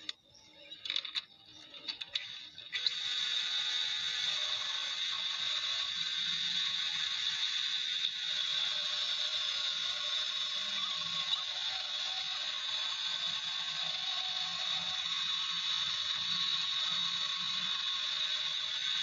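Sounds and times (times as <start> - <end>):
high-pitched machine hiss: 0.0 - 19.0.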